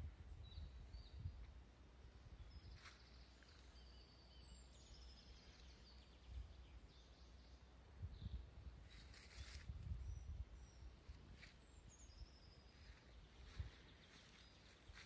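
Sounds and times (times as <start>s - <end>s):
songbirds whistling and trilling: 0.0s - 1.5s, 2.3s - 15.0s.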